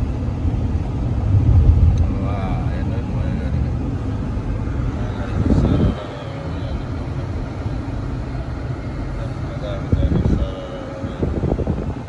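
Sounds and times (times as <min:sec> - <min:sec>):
car road and tyre rumble: 0:00.0 - 0:12.0.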